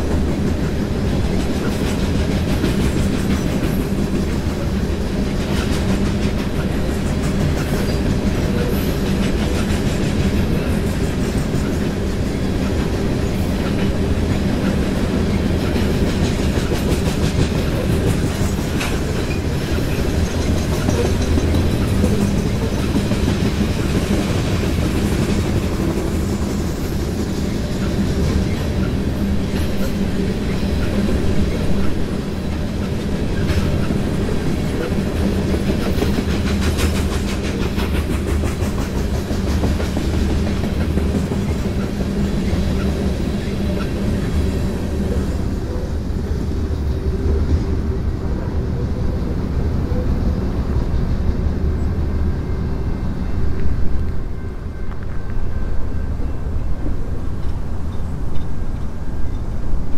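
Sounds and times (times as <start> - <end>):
wheels clickety-clack and rattling: 0.0 - 51.6
freight train rumbling past: 0.0 - 59.9.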